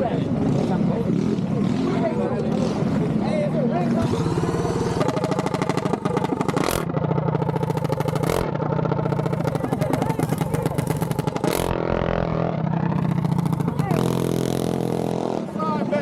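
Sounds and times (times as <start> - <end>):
mini bike engines revving: 0.0 - 16.0.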